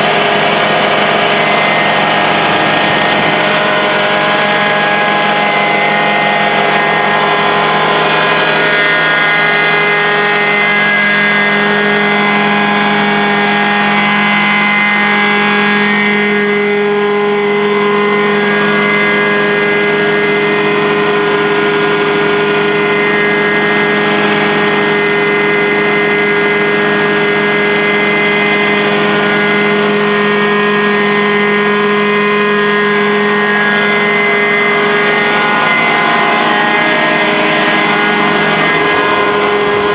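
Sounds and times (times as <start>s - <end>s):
carpet-cleaning extractor drone: 0.0s - 39.9s.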